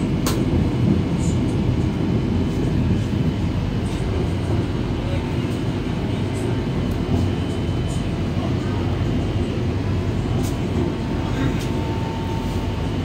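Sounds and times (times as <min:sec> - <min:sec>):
train car low rumble: 0:00.0 - 0:13.0.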